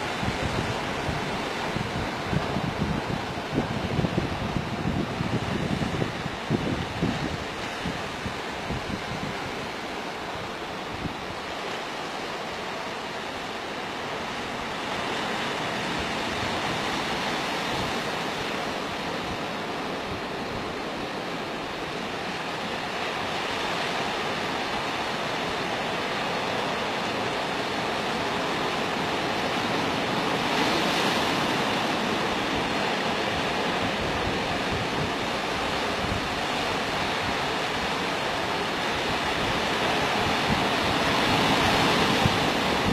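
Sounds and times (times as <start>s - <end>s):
sea waves washing on shore: 0.0s - 42.9s
wind noise on microphone: 0.0s - 42.9s.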